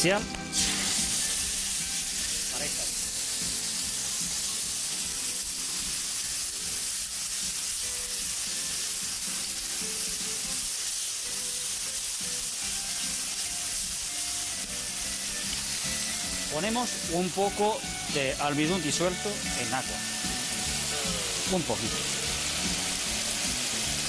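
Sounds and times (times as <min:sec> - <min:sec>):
sauce sizzling in hot wok: 0:00.0 - 0:24.0.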